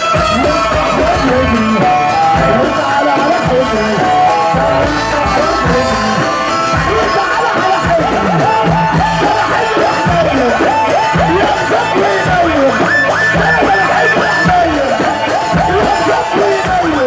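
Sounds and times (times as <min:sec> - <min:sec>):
wedding music with bass and beat: 0:00.0 - 0:17.0.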